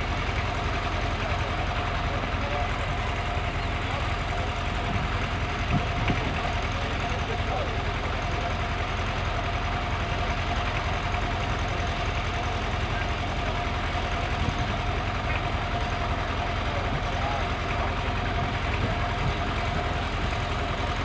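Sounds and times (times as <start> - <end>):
tractor engines idling: 0.0 - 21.0.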